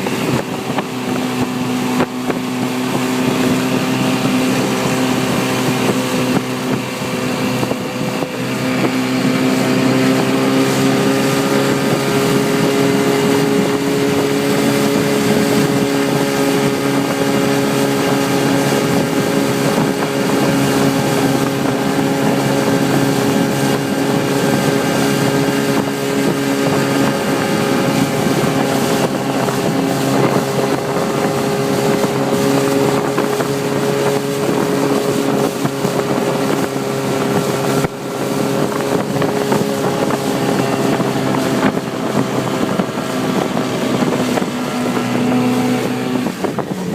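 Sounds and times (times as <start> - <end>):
motorboat engine running: 0.0 - 46.9
wind buffeting microphone: 0.0 - 46.9.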